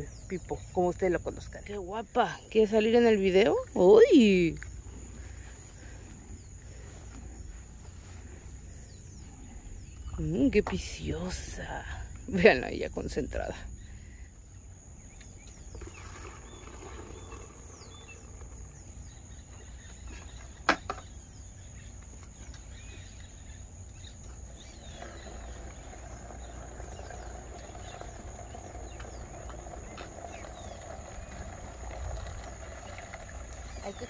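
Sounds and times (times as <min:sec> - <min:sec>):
insects droning: 0:00.0 - 0:34.0
low outdoor rumble: 0:00.0 - 0:34.0.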